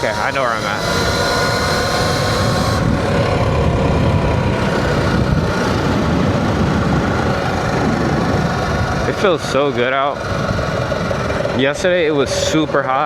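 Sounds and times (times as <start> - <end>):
electric motor whine: 0.0 - 11.8
wind and road noise: 0.0 - 13.0.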